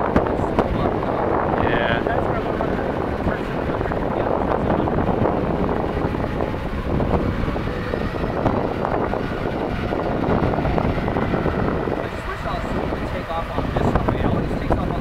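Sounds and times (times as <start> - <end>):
jet engine rumble: 0.0 - 15.0
wind on microphone: 0.0 - 15.0.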